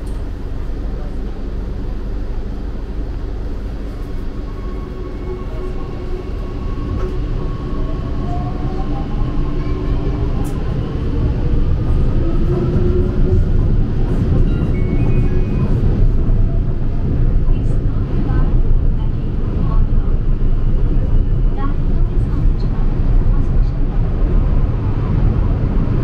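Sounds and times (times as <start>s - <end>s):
metro train rumbling: 0.0s - 26.0s.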